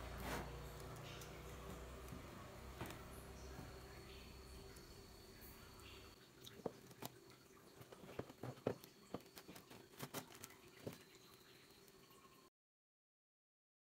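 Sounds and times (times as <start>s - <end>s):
faint steady hum: 0.0s - 12.5s.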